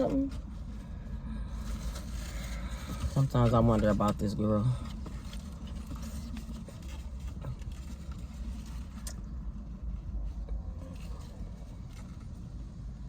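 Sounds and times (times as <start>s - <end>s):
faint rustles: 0.0s - 12.7s
car engine idling: 0.0s - 13.0s.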